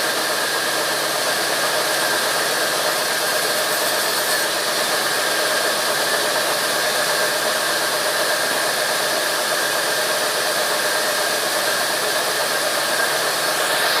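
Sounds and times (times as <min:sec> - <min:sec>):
sawmill machinery whining: 0:00.0 - 0:14.0.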